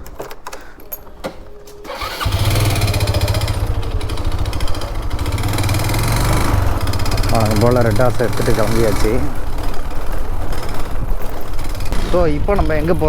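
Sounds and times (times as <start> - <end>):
motorcycle engine running: 1.9 - 13.0.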